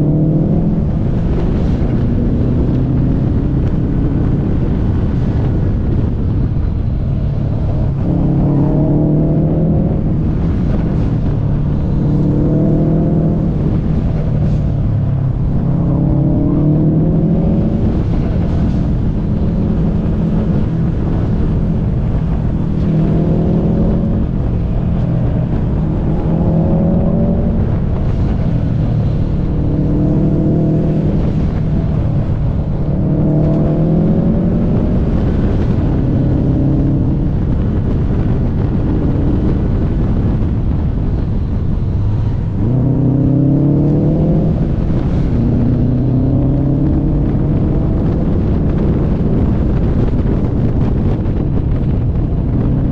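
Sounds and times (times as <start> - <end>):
turbocharged car engine revving: 0.0 - 52.9
wind and road rush: 0.0 - 52.9.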